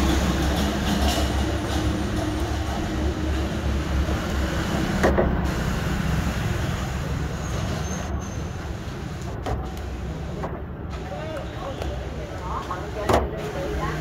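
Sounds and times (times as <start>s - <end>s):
low rumble of road vehicles: 0.0s - 14.0s.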